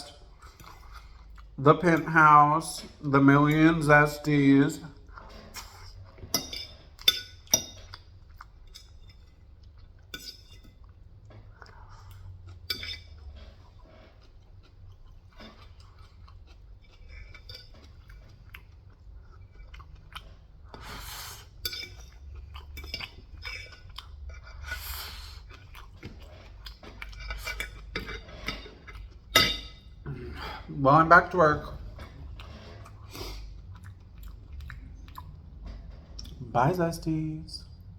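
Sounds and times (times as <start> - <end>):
close chewing of crunchy food: 0.0 - 2.2, 4.9 - 36.5.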